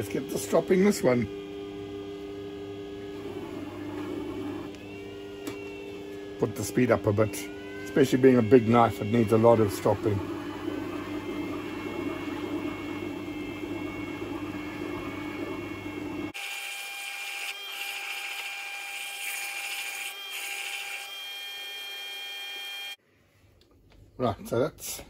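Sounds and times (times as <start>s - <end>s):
grinder motor hum with whine: 0.0s - 23.0s.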